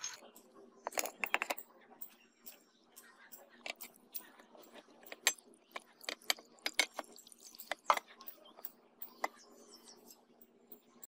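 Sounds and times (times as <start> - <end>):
metal clicks and taps: 0.0 - 9.5.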